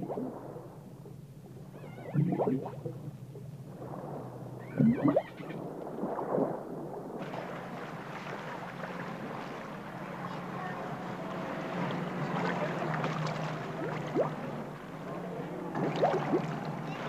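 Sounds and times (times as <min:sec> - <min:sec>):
low hum: 0:00.0 - 0:17.0
water noise: 0:00.0 - 0:17.0.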